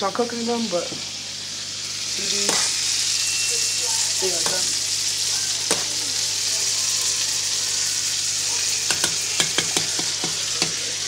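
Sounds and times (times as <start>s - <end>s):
food sizzling on stovetop: 0.0s - 11.0s.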